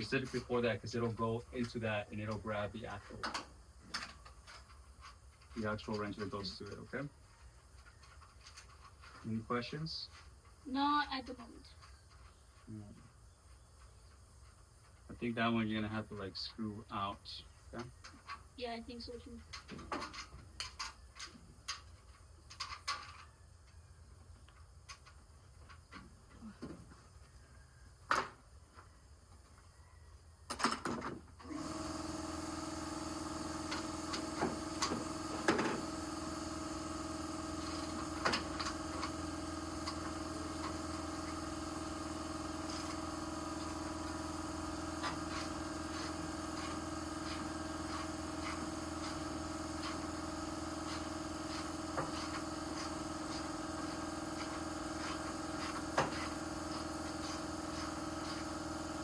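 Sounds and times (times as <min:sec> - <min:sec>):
mechanical hum: 0:00.0 - 0:59.0.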